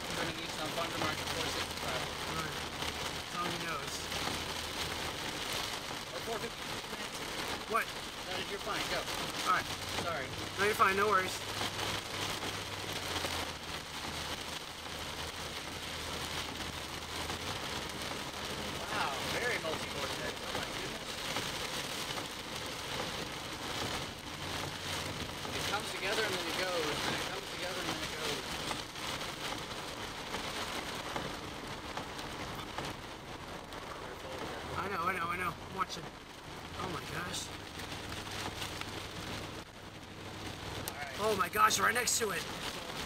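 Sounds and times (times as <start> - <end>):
heavy rain pelting a vehicle: 0.0 - 43.0
low engine and road drone: 0.0 - 43.0.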